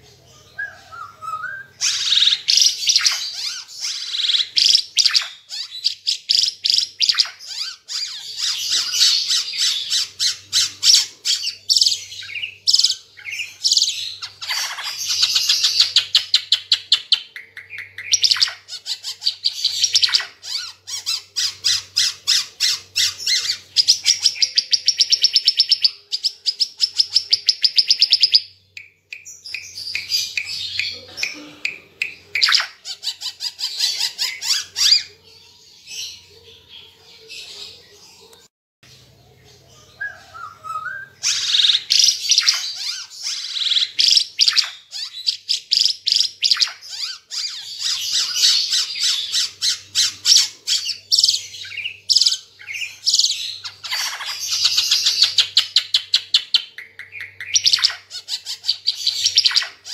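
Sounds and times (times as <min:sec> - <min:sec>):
bird chattering song: 0:00.0 - 0:35.5, 0:36.1 - 0:59.9.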